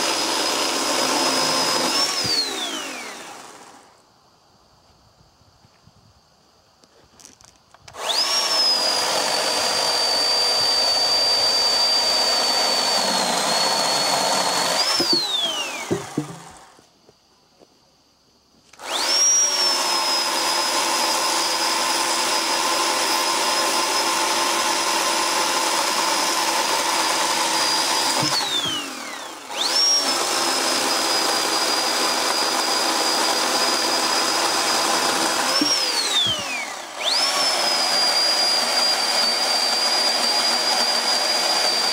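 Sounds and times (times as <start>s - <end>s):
chain cutting through log: 0.0s - 3.9s, 7.2s - 16.8s, 18.7s - 41.9s
motor spinning down: 0.0s - 4.0s, 7.9s - 16.8s, 18.8s - 41.9s
electric chainsaw motor whine: 0.0s - 4.1s, 7.2s - 16.9s, 18.7s - 41.9s.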